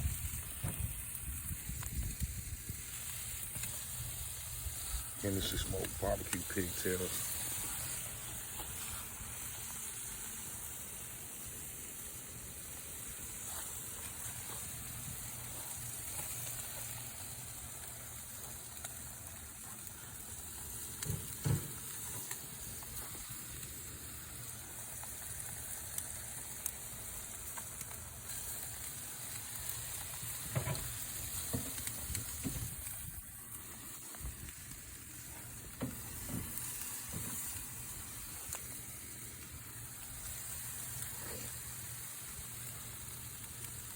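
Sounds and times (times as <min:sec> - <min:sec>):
meat sizzling on a grill: 0:00.0 - 0:43.9.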